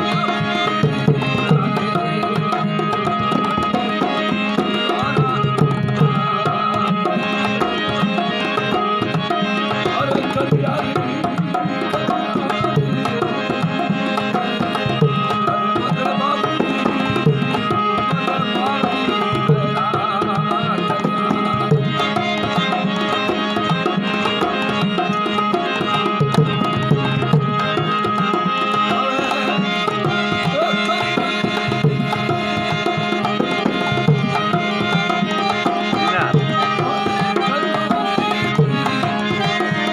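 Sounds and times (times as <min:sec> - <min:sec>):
folk melody line: 0:00.0 - 0:39.9
hand drum rhythm: 0:00.0 - 0:39.9.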